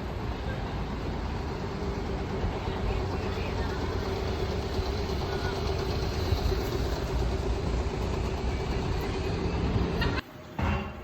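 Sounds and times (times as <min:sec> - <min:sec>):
vehicle engine rumbling: 0:00.0 - 0:10.2.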